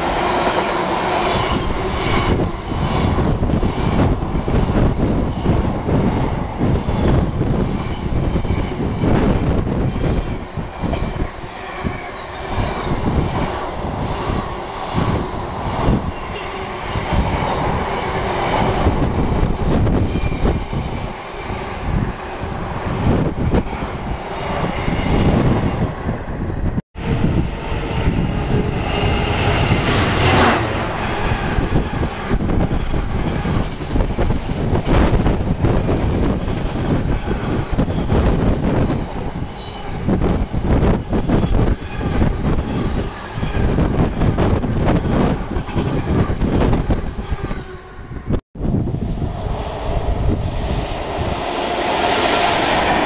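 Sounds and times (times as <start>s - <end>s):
train rumble: 0.0s - 53.0s.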